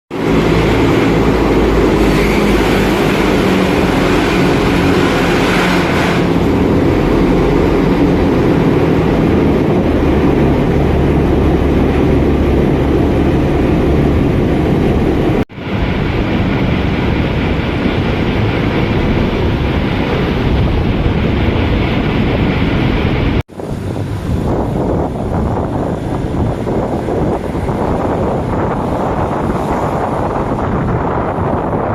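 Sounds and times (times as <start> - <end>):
boat engine running: 0.1 - 31.9.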